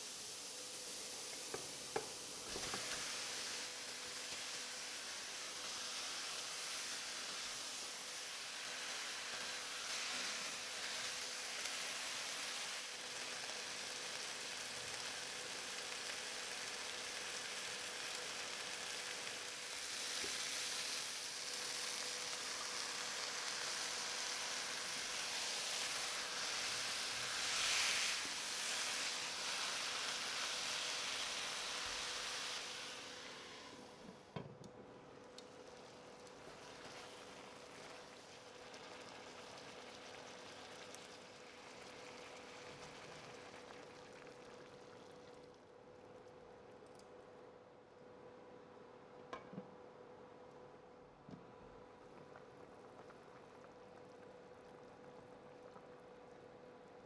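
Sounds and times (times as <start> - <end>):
chicken sizzling in a pot: 0.0 - 34.4, 35.0 - 46.2, 51.8 - 57.0.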